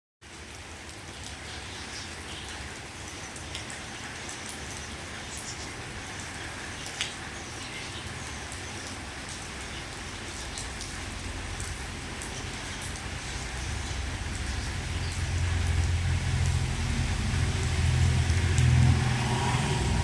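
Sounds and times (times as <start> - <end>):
raindrops ticking: 0.2 - 20.0
steady rainfall: 0.2 - 20.0.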